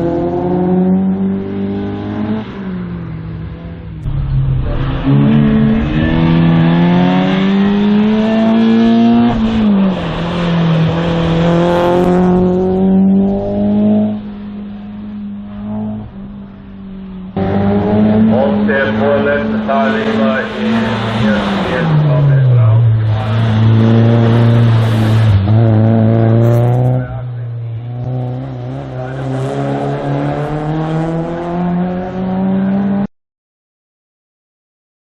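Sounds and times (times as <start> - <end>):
race car engine accelerating: 0.0 - 33.1.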